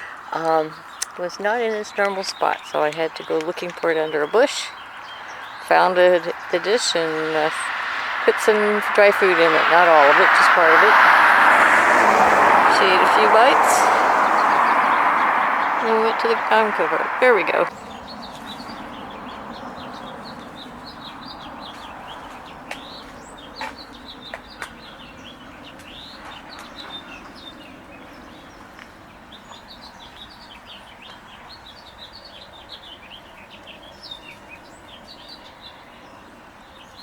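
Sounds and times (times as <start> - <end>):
small songbirds chirping: 0.0 - 37.0.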